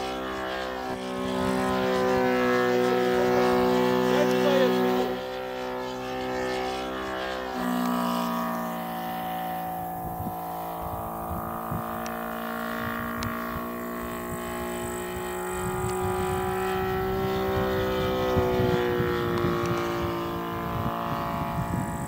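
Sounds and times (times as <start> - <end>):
model plane engine running: 0.0 - 22.0.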